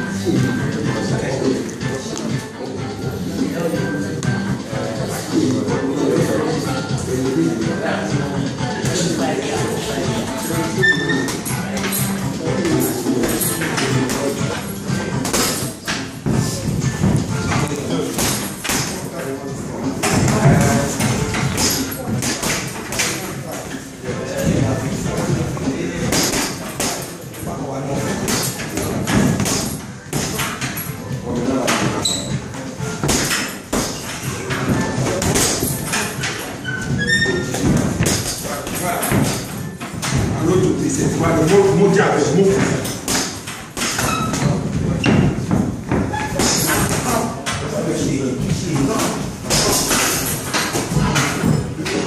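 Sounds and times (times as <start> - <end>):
music playing: 0.0 - 52.0.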